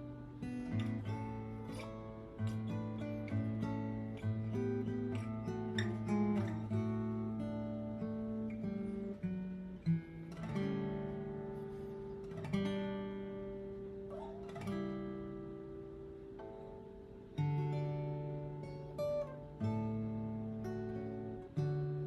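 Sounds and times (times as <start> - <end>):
acoustic guitar plucked notes: 0.0 - 22.0.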